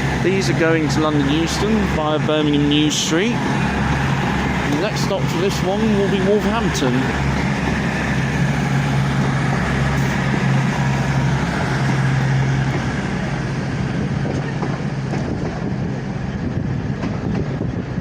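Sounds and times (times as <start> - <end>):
diesel engines humming: 0.0 - 18.0
steady rumble: 0.0 - 18.0.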